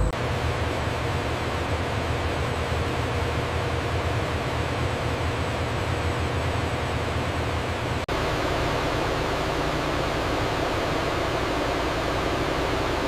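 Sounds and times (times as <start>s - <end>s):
factory machinery drone: 0.0s - 13.0s.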